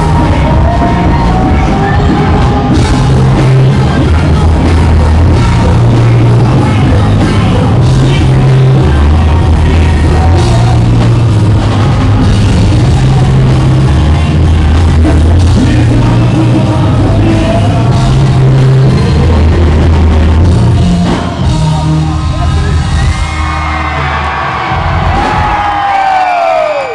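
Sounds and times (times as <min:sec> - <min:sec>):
crowd shouting and whooping: 0:00.0 - 0:16.8, 0:20.6 - 0:26.9
bass-heavy hip-hop backing track: 0:00.0 - 0:26.8.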